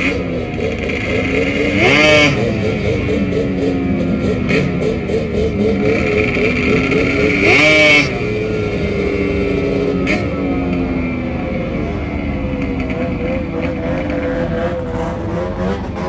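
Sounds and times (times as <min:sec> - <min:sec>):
racing engine idling and revving: 0:00.0 - 0:16.0.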